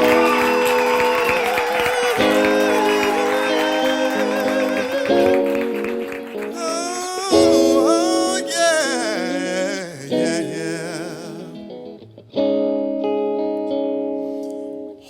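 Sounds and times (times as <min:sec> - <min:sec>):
guitar chord ringing: 0:01.9 - 0:15.0.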